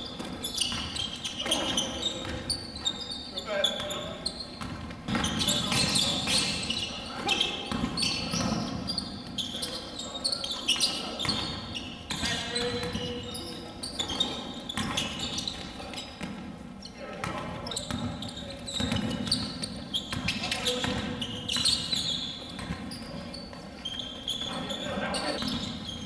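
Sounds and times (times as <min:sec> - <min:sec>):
sneakers squeaking: 0:00.0 - 0:26.0.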